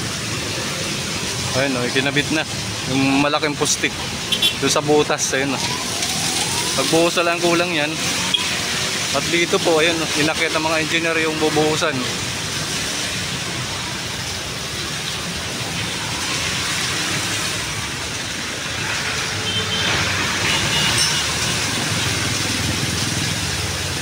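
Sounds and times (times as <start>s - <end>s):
passing vehicles: 0.0s - 24.0s.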